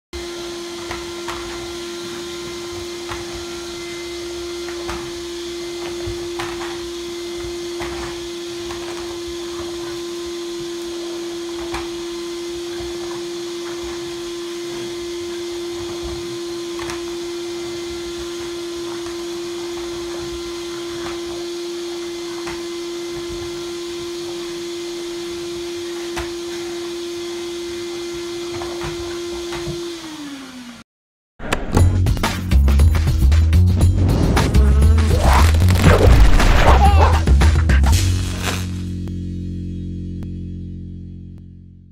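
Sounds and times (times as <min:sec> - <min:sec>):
vacuum cleaner running: 0:00.2 - 0:30.8, 0:33.8 - 0:38.9.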